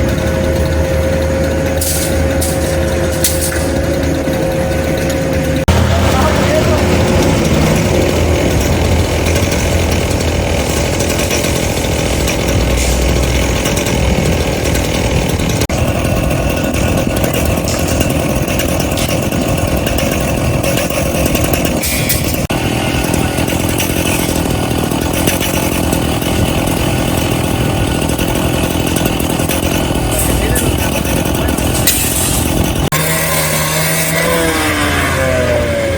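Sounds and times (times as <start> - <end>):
power tool small engine buzzing: 0.0 - 35.9.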